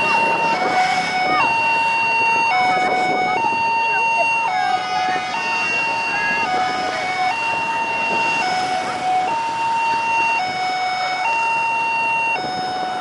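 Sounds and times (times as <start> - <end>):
two-tone hi-lo siren: 0.0 - 13.0.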